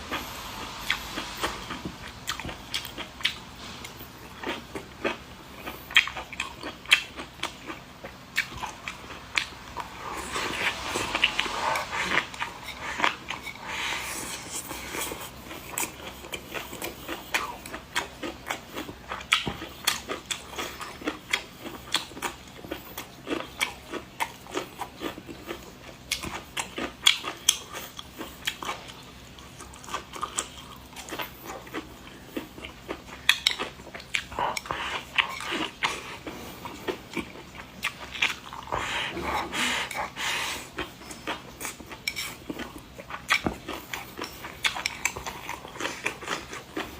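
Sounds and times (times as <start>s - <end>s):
person chewing food: 0.1s - 46.9s.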